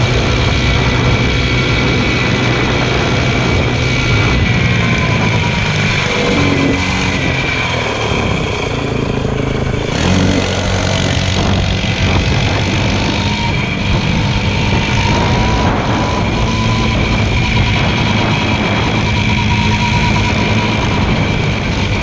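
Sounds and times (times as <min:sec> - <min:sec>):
motorcycle engine running: 0:00.0 - 0:22.0
steady high whine: 0:00.0 - 0:22.0.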